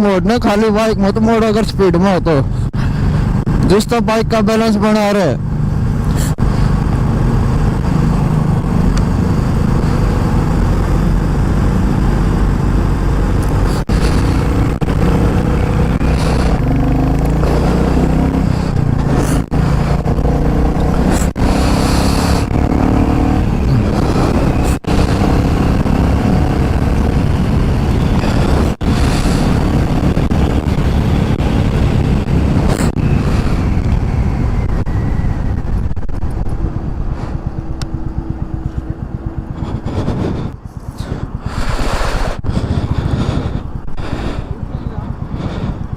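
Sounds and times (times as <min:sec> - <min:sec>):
motorcycle engine running: 0:02.4 - 0:45.9
wind noise: 0:05.4 - 0:45.9.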